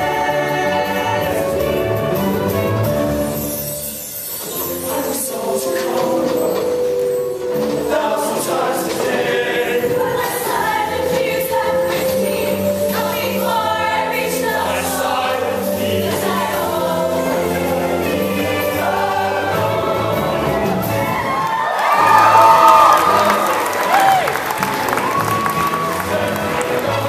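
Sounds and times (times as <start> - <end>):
choir singing held chords: 0.0 - 27.0
low musical backing: 0.0 - 27.0.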